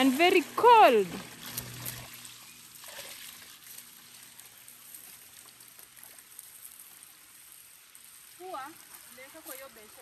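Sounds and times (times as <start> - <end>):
water dripping and pattering: 0.0 - 10.0.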